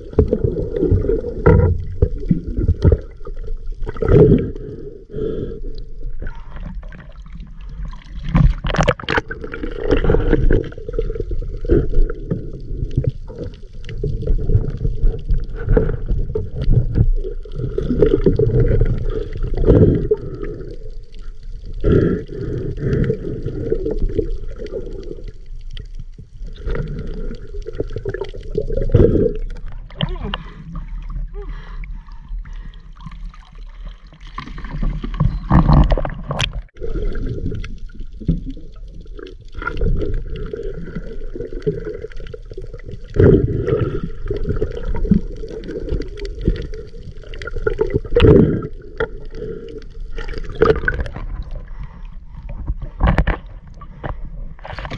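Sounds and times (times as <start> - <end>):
sea water sloshing and gurgling: 0.0 - 54.9.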